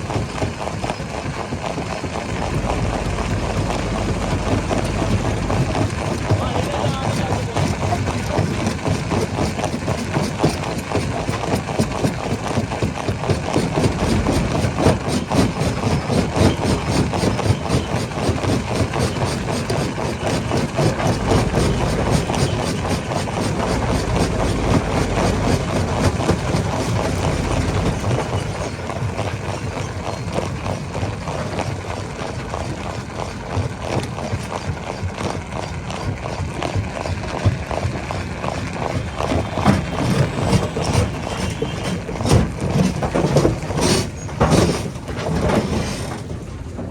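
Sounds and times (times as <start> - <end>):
engine drone: 0.0 - 46.9
rapid clatter of stone: 0.0 - 46.9.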